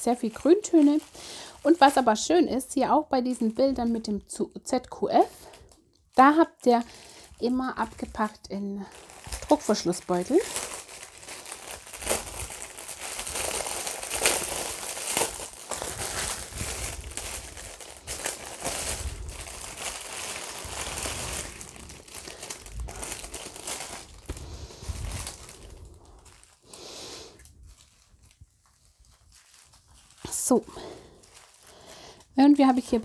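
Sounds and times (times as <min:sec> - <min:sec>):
plastic bags crinkling: 0:00.0 - 0:33.0.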